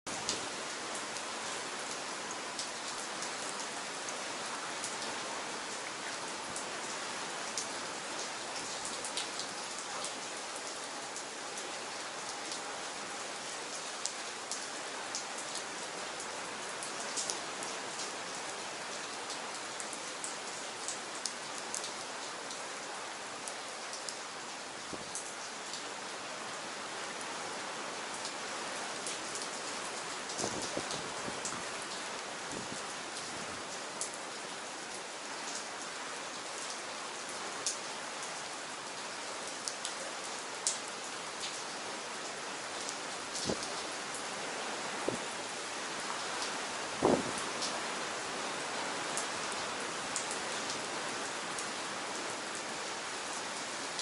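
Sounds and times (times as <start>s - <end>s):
rain falling: 0.1s - 54.0s
raindrops hitting close by: 0.1s - 54.0s.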